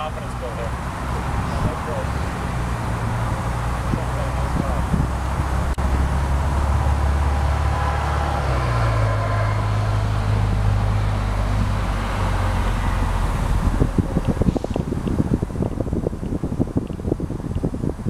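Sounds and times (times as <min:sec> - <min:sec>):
vehicle engine hum: 0:00.0 - 0:18.0
wind buffeting microphone: 0:00.0 - 0:18.0.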